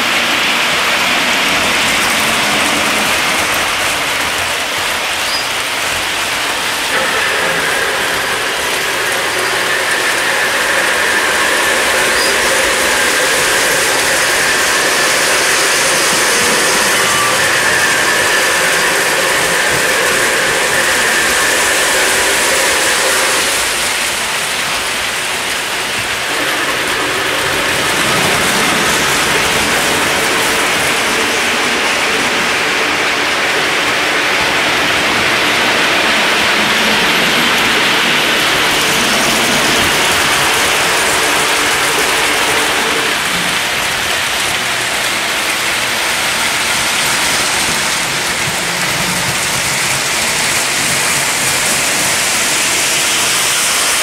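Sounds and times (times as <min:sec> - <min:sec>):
model trains rattling rumble: 0:00.0 - 0:54.0.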